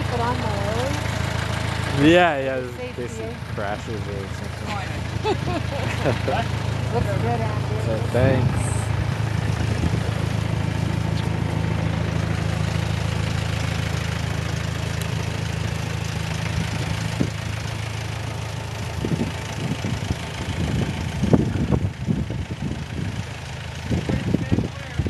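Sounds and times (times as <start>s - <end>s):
small tractor engine running: 0.0s - 25.0s.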